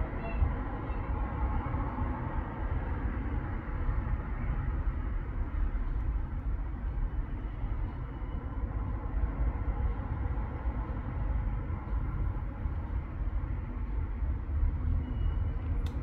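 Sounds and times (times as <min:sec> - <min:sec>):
distant traffic rumble: 0:00.0 - 0:16.0.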